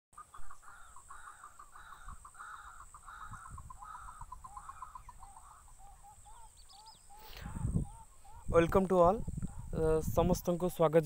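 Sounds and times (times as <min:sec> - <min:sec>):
birds calling: 0:00.2 - 0:11.0.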